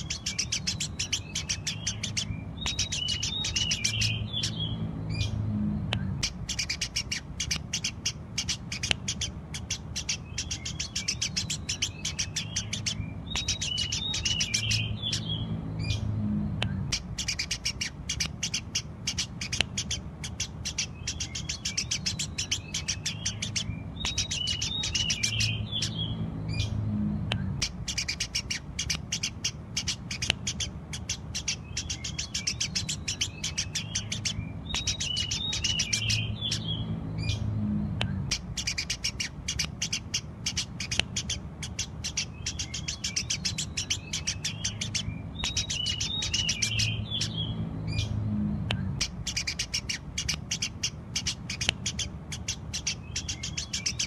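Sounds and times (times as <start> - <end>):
low hum: 0.0 - 8.4, 9.0 - 28.8, 29.6 - 40.4, 46.3 - 51.1
sparrows chirping: 0.0 - 54.0.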